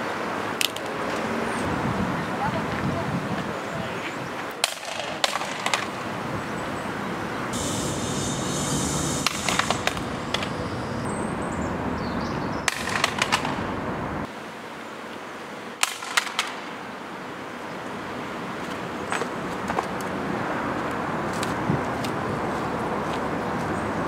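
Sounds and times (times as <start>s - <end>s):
traffic hum: 0.0s - 24.0s.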